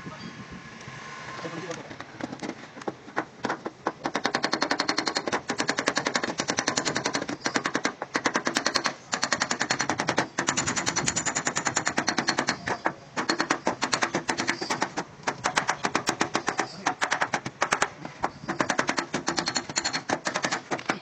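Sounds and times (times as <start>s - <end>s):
rapid tapping on metal panel: 2.0s - 21.0s.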